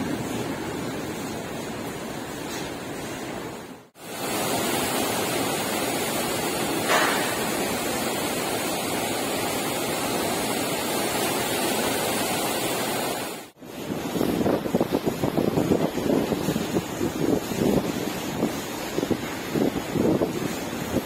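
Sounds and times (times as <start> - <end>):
ship's wake churning: 0.0 - 21.0.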